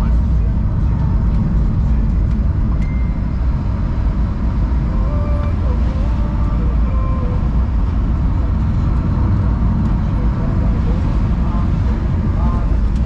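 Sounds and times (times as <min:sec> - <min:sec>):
car engine drone: 0:00.0 - 0:13.0
road noise inside car: 0:00.0 - 0:13.0.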